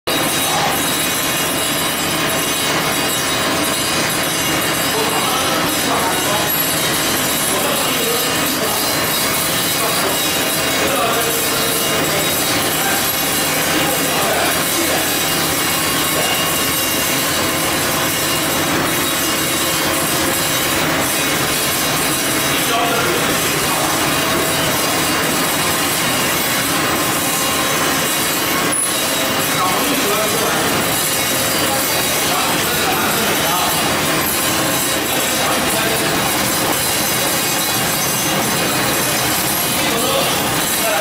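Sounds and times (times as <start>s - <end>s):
production line machinery running: 0.1s - 41.0s.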